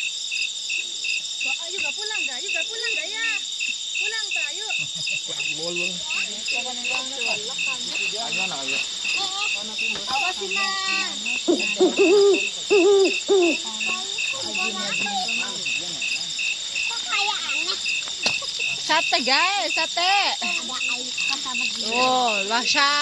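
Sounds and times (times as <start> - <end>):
crickets chirping: 0.0 - 23.0
high insect drone: 0.0 - 23.0
indistinct human voices: 4.0 - 23.0.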